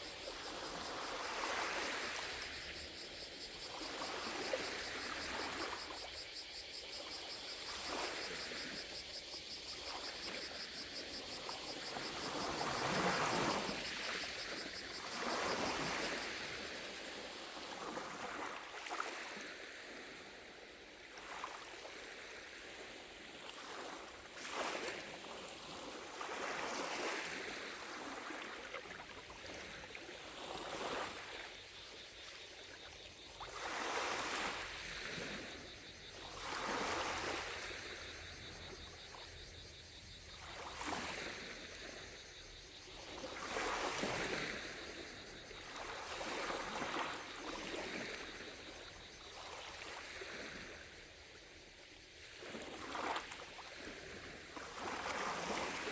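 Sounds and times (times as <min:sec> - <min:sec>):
lake waves lapping at shore: 0:00.0 - 0:39.4, 0:40.3 - 0:55.9
distant cicadas buzzing: 0:00.0 - 0:55.9.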